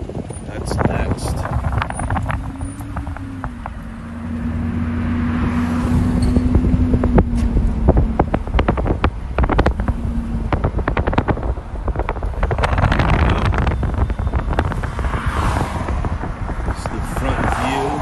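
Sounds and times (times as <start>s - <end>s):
road traffic passing: 0.0s - 18.0s
wind buffeting microphone: 0.0s - 18.0s.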